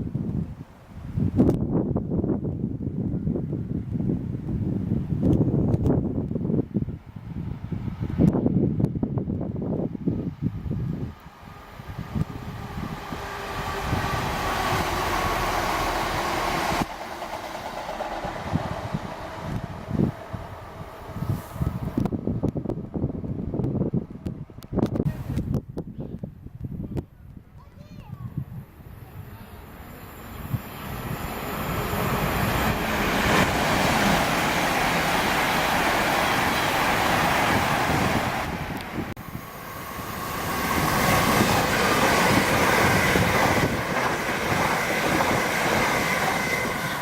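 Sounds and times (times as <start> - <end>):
wind buffeting microphone: 0.0 - 47.0
train passing: 1.7 - 25.4, 28.5 - 47.0.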